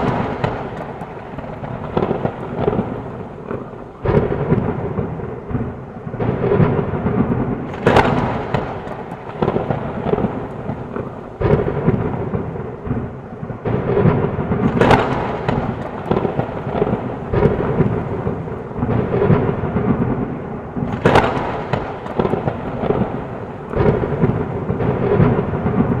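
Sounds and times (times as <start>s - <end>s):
heavy rain falling: 0.0s - 26.0s
rolling thunder: 0.0s - 26.0s
sharp thunder cracks: 0.0s - 26.0s.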